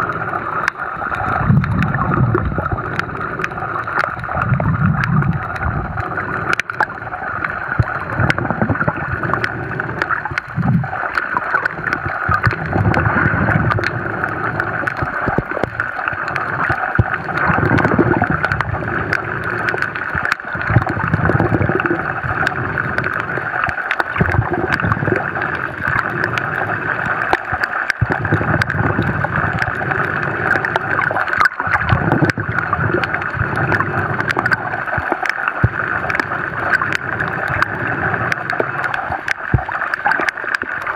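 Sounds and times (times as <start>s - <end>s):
diver's bubbles gurgling: 0.0s - 40.9s.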